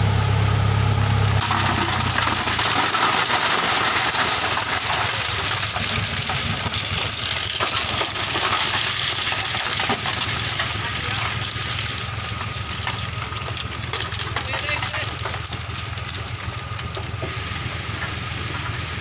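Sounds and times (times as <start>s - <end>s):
truck engine running: 0.0s - 19.0s
stone sliding and clattering: 1.4s - 17.1s.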